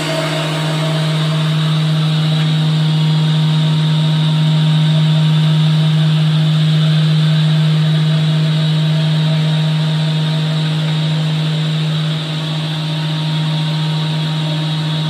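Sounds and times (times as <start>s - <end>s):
machine hum with low drone: 0.0s - 15.0s.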